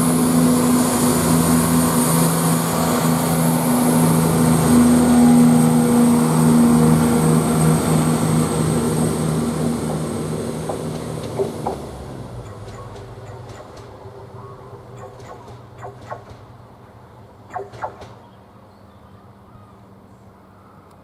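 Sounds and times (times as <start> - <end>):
diesel train engines throbbing: 0.0 - 18.6.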